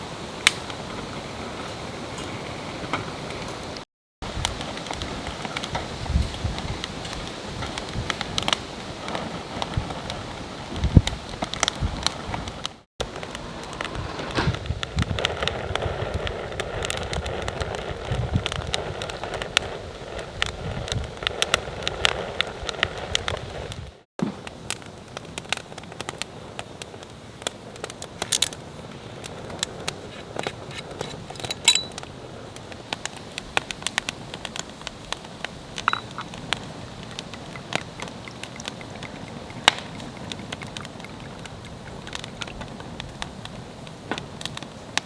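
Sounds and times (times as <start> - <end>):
wood fire crackling and popping: 0.2 - 45.0.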